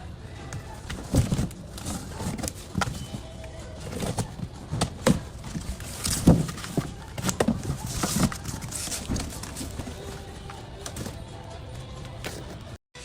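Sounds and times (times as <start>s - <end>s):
cardboard rustling: 0.4s - 11.4s, 12.1s - 12.8s
cardboard boxes knocking: 0.5s - 11.2s.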